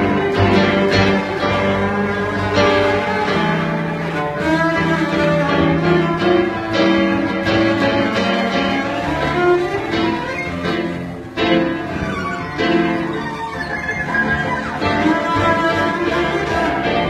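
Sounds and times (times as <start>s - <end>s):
cello bowed: 0.0s - 17.0s.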